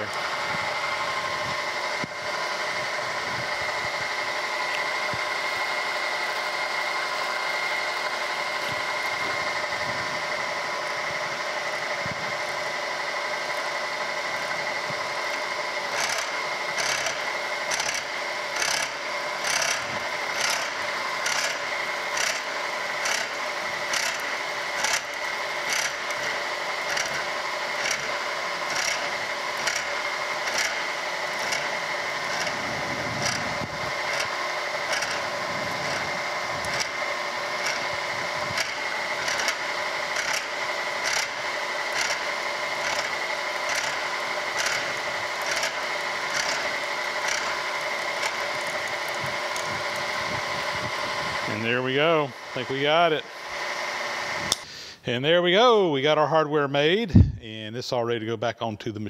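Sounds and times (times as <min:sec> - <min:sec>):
saw scraping through metal: 0:00.0 - 0:54.6
milling machine whine: 0:00.0 - 0:56.1.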